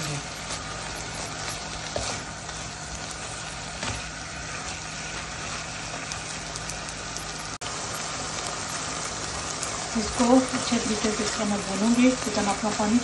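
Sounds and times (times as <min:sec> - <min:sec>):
chicken sizzling in a wok: 0:00.0 - 0:13.0.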